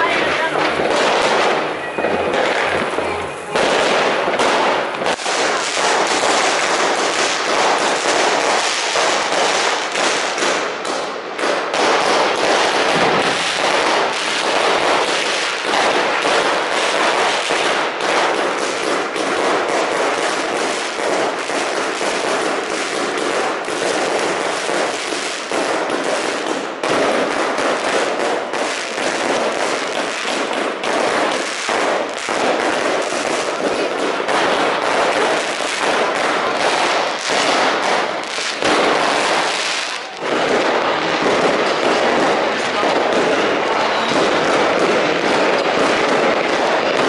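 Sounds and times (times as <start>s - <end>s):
fireworks bangs and crackling: 0.0s - 47.0s.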